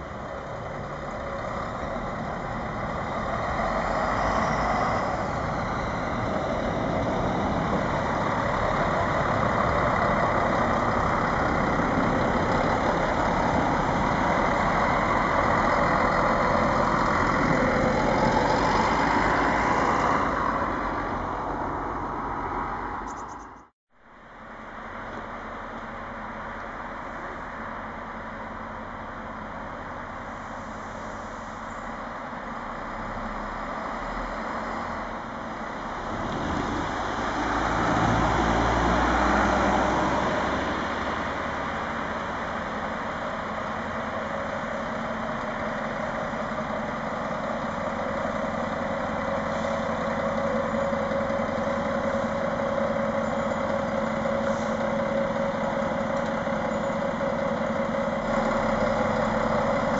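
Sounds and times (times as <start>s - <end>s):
diesel train engine droning: 0.0s - 59.9s.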